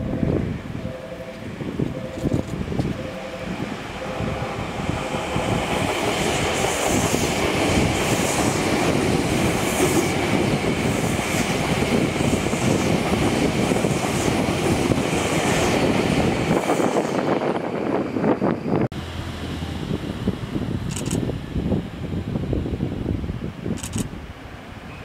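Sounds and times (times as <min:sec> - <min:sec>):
train wheels rumbling on rails: 0:00.0 - 0:22.6
high hiss of passing train cars: 0:00.0 - 0:25.0.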